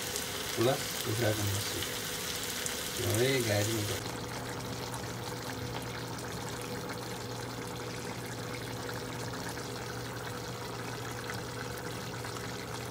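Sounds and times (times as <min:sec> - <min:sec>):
curry simmering in a pot: 0:00.0 - 0:12.9
low steady hum: 0:00.4 - 0:12.9.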